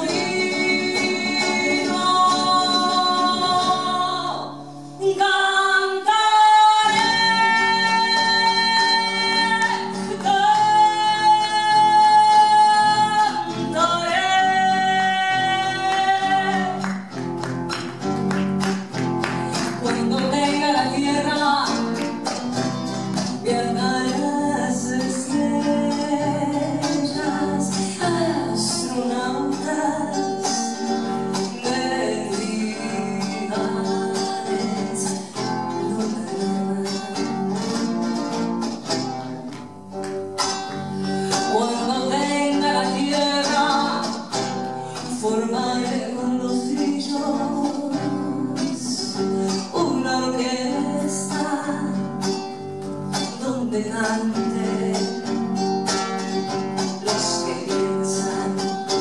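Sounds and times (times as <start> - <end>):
acoustic guitar strumming and plucking: 0.0 - 59.0.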